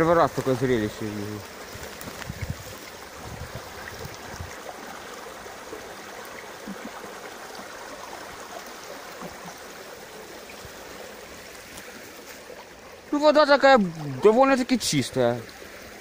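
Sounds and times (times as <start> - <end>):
river water running from pipes: 0.0 - 16.0.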